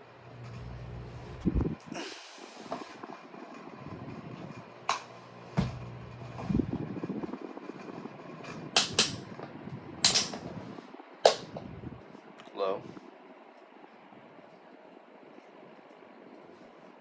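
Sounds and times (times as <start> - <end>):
table fan running: 0.0 - 17.0.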